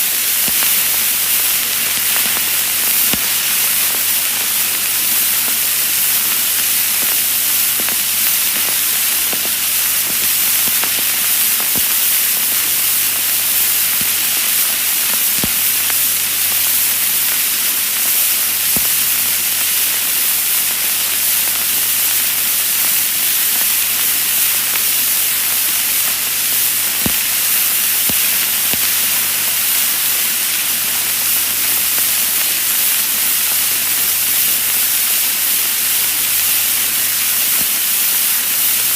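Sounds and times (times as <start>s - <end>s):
vinyl crackles and pops: 0.0s - 38.9s
vinyl record hiss: 0.0s - 38.9s.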